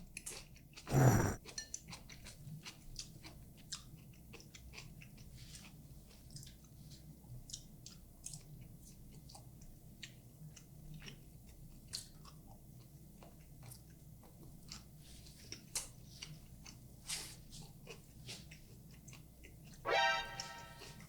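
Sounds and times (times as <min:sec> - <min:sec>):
person chewing noodles: 0:00.2 - 0:06.8, 0:07.4 - 0:19.8.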